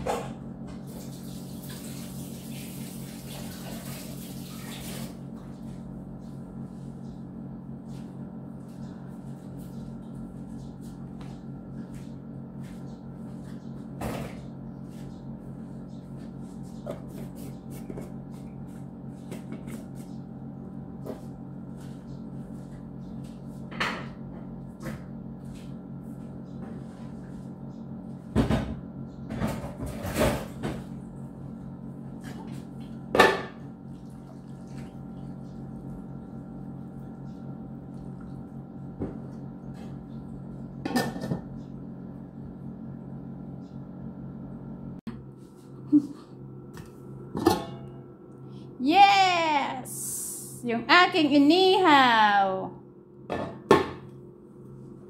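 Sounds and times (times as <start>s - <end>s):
low appliance hum: 0.0s - 55.0s.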